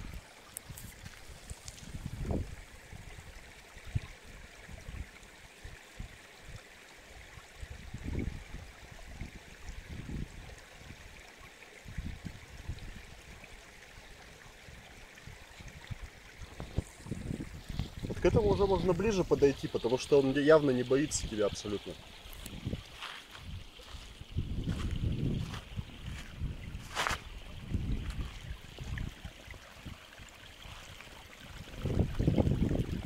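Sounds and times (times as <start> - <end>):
stream trickling over stones: 0.0 - 33.0.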